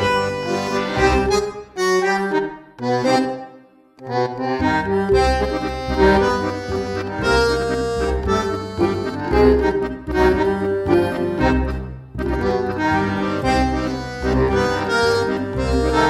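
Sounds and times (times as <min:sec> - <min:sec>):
steady bass line: 0:00.0 - 0:03.3, 0:04.1 - 0:16.0
reedy melodic notes: 0:00.0 - 0:16.0.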